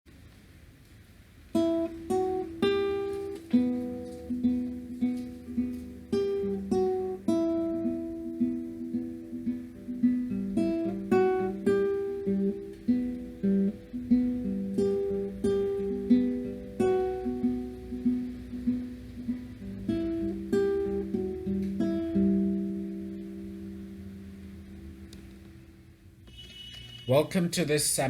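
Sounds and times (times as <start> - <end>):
acoustic guitar picking: 1.5 - 28.0.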